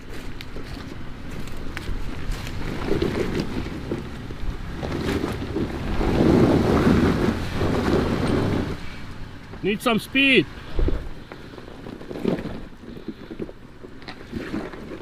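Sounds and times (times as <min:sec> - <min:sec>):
wind buffeting microphone: 0:00.0 - 0:09.6, 0:10.5 - 0:15.0
vehicle engine driving: 0:00.0 - 0:15.0.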